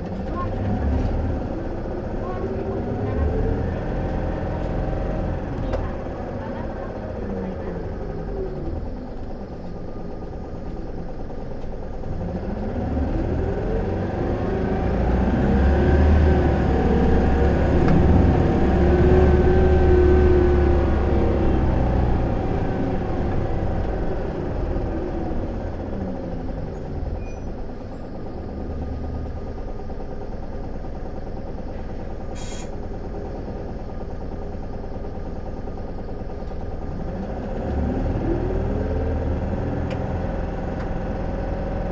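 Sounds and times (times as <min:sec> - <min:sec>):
bus diesel engine accelerating: 0:00.0 - 0:41.9.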